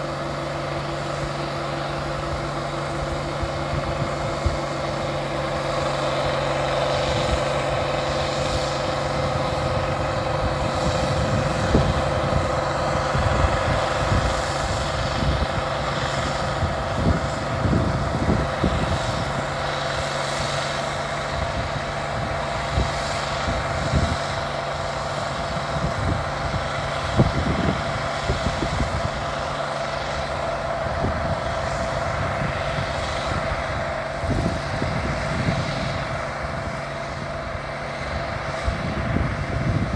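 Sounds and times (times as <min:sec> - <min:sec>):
combine engine drone: 0:00.0 - 0:39.9.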